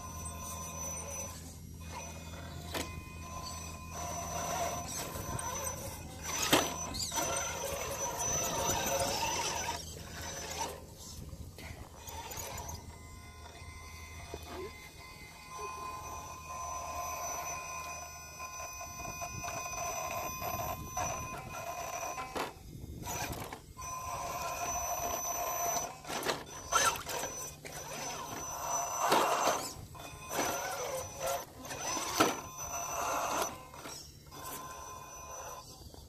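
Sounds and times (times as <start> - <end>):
electric motor whining: 0.0 - 36.0.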